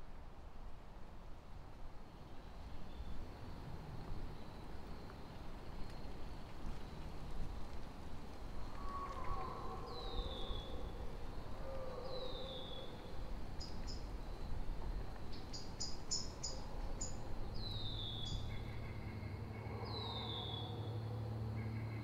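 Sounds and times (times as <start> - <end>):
low steady hum: 1.6 - 22.0.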